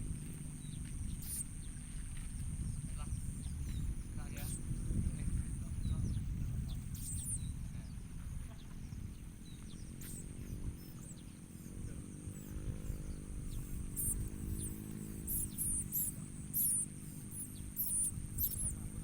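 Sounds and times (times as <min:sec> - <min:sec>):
low droning hum: 0:00.0 - 0:19.0
high thin bird chirps: 0:00.6 - 0:02.3, 0:02.9 - 0:07.6, 0:09.4 - 0:19.0.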